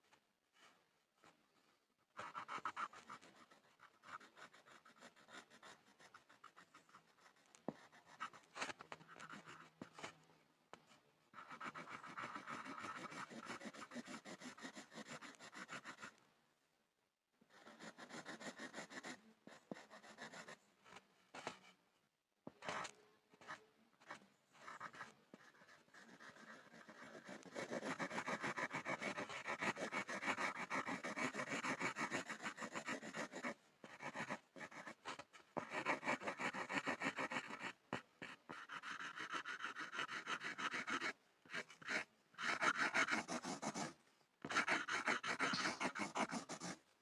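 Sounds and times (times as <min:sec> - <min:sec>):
pencil scribbling on a board: 0:02.2 - 0:10.2, 0:11.3 - 0:16.2, 0:17.5 - 0:21.8, 0:22.5 - 0:47.0.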